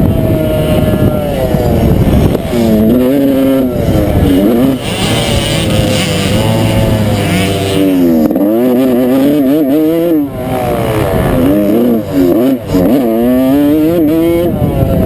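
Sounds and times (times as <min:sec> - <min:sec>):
dirt bike engine revving: 0:00.0 - 0:15.0
wind on microphone: 0:00.0 - 0:15.0.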